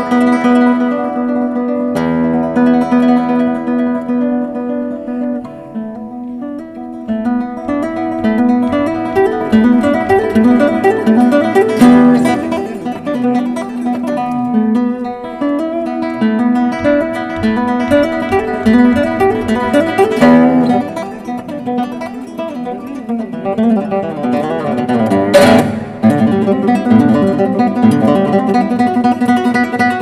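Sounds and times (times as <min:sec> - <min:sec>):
classical guitar fingerpicking: 0:00.0 - 0:30.0.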